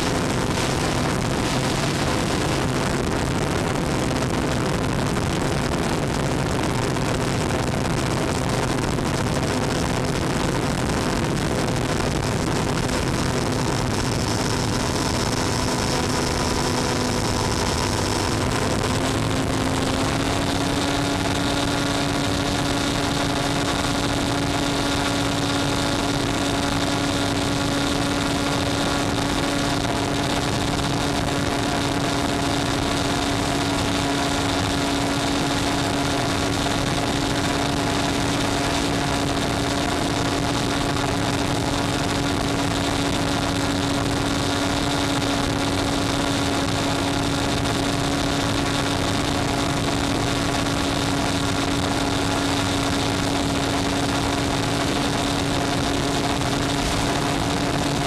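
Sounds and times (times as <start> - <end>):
model plane motor drone: 0.0 - 58.0.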